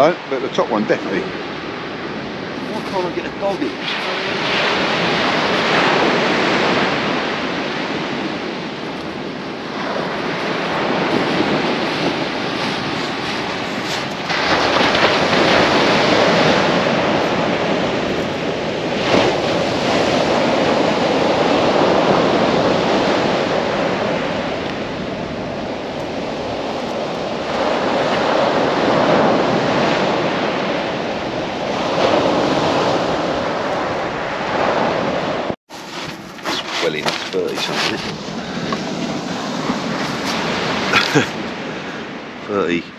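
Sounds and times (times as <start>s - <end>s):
surf breaking on shingle beach: 0.0s - 42.8s.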